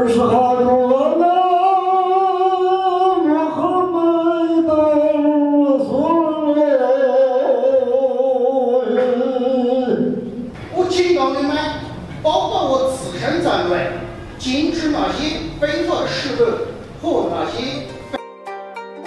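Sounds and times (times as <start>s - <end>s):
man chanting recitation: 0.0s - 18.2s.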